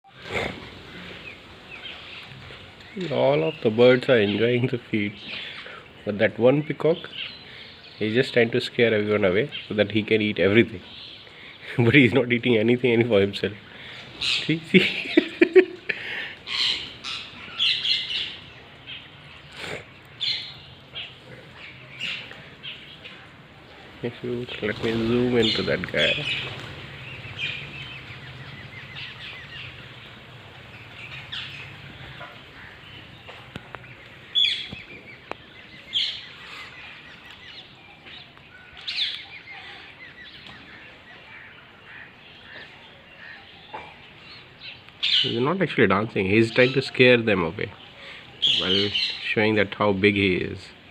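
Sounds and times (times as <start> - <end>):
birds chirping and calling: 0.0 - 50.9.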